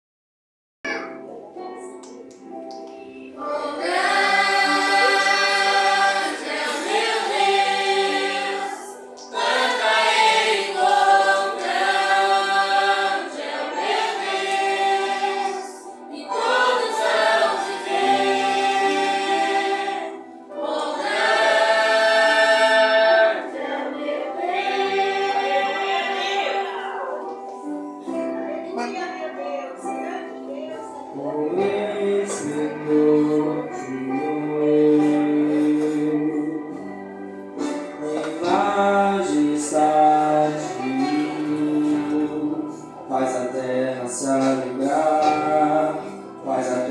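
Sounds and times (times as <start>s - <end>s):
choir singing: 3.2s - 27.4s, 31.0s - 46.9s.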